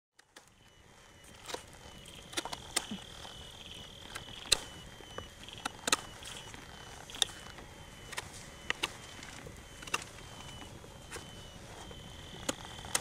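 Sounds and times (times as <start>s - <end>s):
insect trill: 0.8s - 13.0s.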